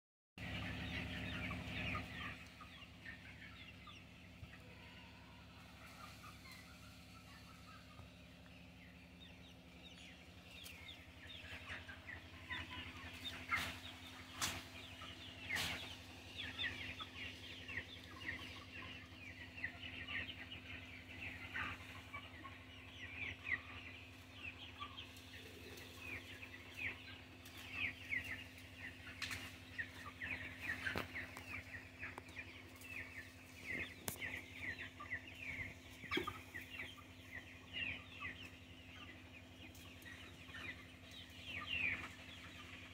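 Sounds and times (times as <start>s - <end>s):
chicks peeping and cheeping: 0.4s - 42.9s.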